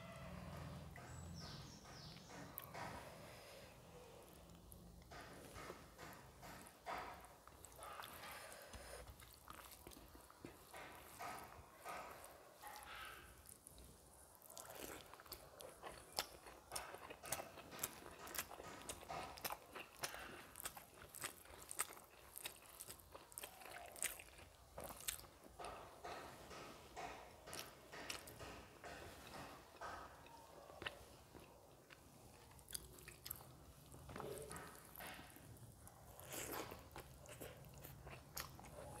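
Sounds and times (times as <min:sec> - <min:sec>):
chewing with wet mouth clicks: 0:04.3 - 0:26.2, 0:27.0 - 0:39.0.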